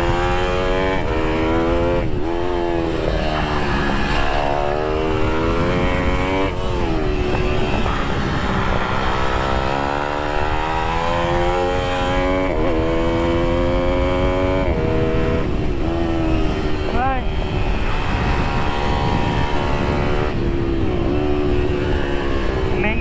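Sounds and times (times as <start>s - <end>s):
motorbike engine revving: 0.0s - 23.0s
wind rushing past: 0.0s - 23.0s.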